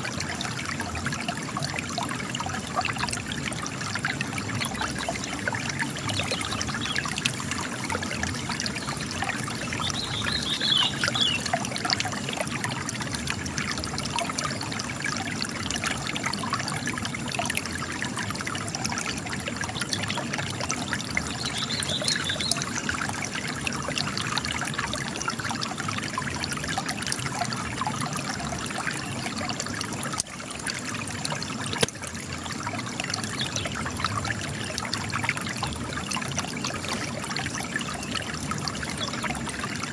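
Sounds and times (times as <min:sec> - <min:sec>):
spring water trickling and splashing: 0:00.0 - 0:39.9.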